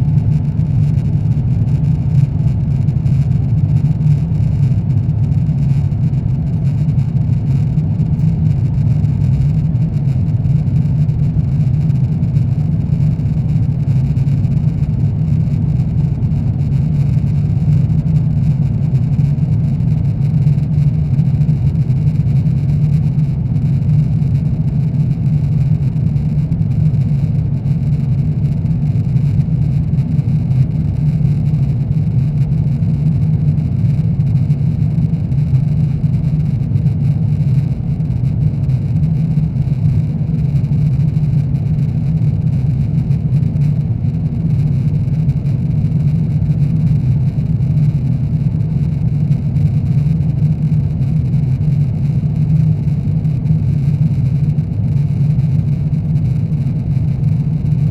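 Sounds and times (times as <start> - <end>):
airplane cabin engine drone: 0.0 - 57.9.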